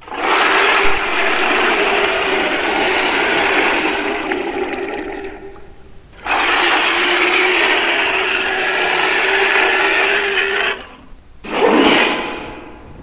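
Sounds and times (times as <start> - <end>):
raspy growl: 0.0 - 11.1.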